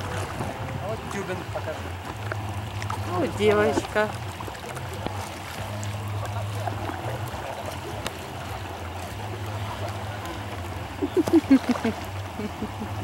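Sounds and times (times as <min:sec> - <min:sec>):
light splashes: 0:00.0 - 0:13.0
water lapping and trickling: 0:00.0 - 0:13.0.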